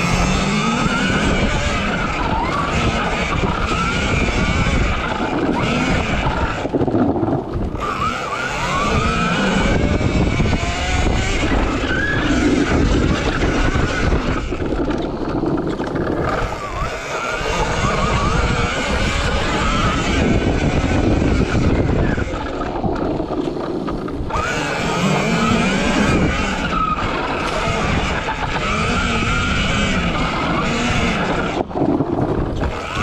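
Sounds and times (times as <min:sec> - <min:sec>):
electric motor whine: 0:00.0 - 0:33.0.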